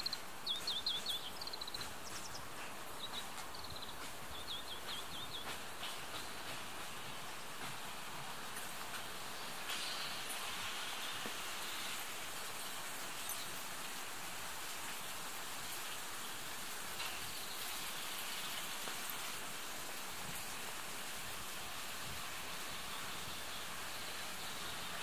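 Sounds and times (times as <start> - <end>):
outdoor hiss: 0.0 - 25.0.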